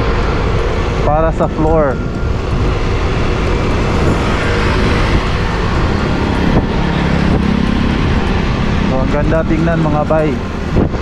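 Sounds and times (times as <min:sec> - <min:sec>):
low engine hum: 0:00.0 - 0:11.0
motor vehicle rumble: 0:00.0 - 0:11.0.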